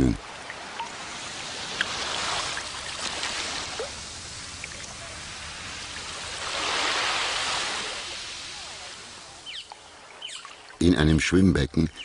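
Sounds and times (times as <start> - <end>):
water sloshing and rushing: 0.0 - 11.2.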